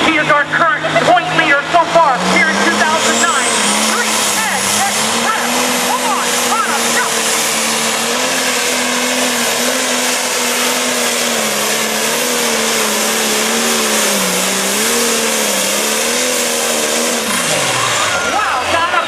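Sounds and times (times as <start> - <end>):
diesel engine running hard: 0.0 - 19.0.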